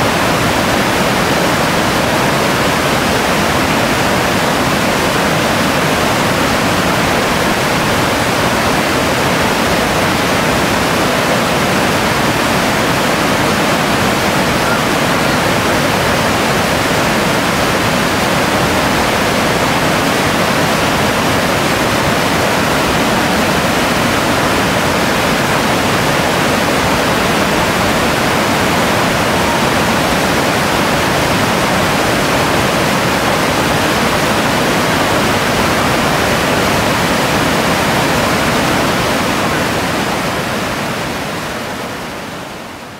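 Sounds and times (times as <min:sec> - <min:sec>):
river rapids rushing over rocks: 0:00.0 - 0:42.9.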